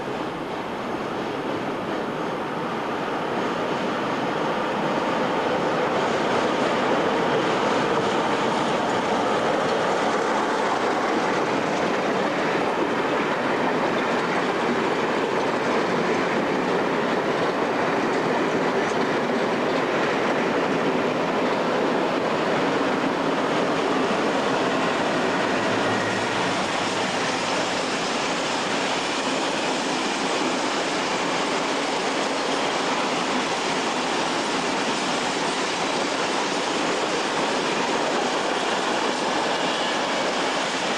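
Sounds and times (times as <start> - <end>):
freight train wheels rumbling on rail: 0.0 - 40.9.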